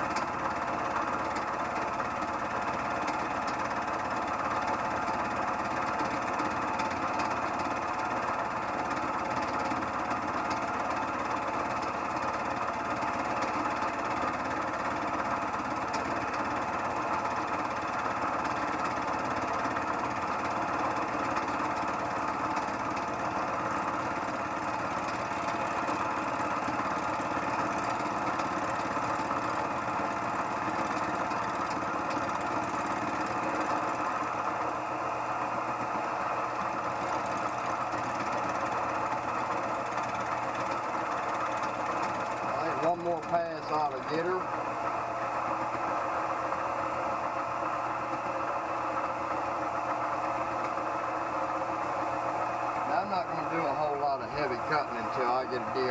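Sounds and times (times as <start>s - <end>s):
milling machine cutting metal: 0.0s - 55.9s.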